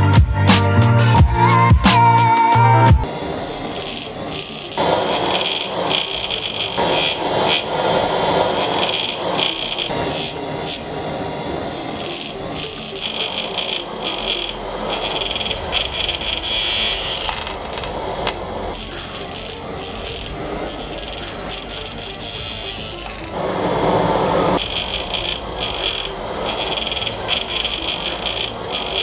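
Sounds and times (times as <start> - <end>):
small jet engine roaring: 3.0 - 29.0.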